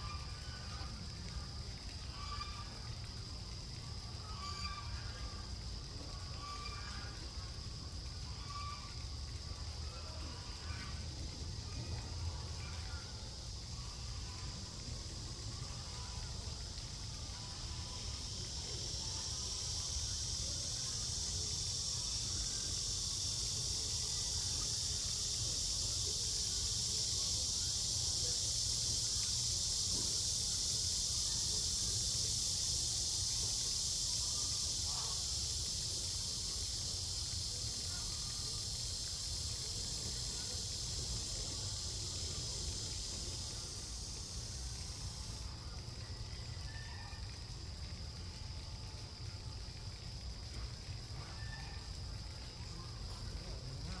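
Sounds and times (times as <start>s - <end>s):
insect chorus: 0.0s - 54.0s.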